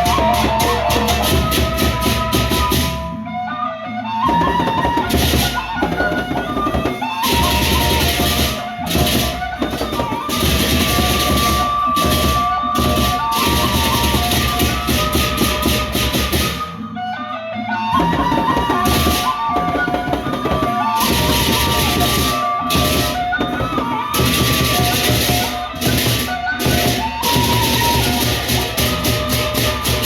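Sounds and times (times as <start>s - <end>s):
large drums beating: 0.0s - 3.1s, 4.3s - 16.7s, 18.0s - 30.0s.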